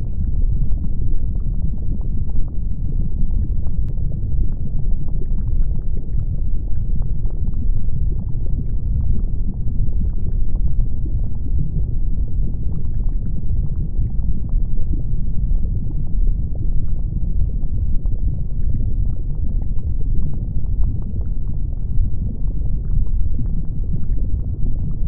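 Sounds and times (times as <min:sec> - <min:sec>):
deep volcanic rumble: 0:00.0 - 0:25.0
small crackles and pops: 0:00.0 - 0:25.0.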